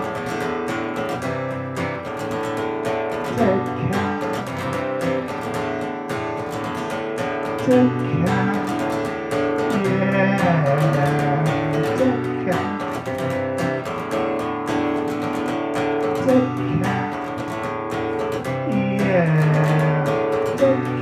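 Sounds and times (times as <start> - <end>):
acoustic guitar strumming: 0.0 - 21.0
sliding guitar notes: 0.0 - 21.0.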